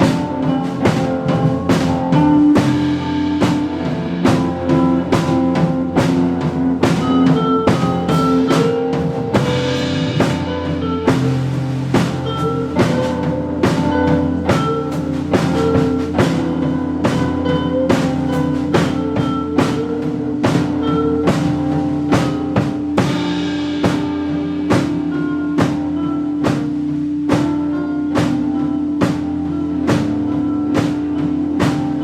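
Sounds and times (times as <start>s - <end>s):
drum kit beat: 0.0s - 32.0s
live rock band playing: 0.0s - 32.0s.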